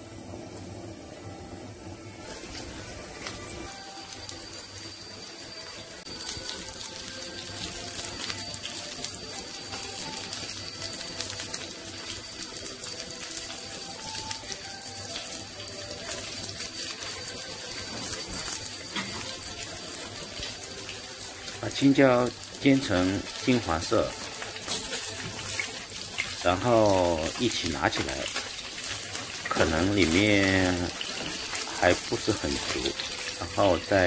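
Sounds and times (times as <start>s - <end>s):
peppers sizzling in a pan: 2.2s - 34.0s.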